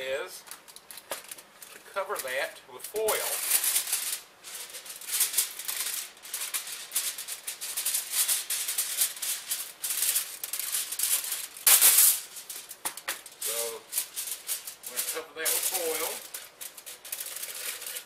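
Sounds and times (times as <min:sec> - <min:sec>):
aluminum foil box crinkling: 0:00.5 - 0:18.0.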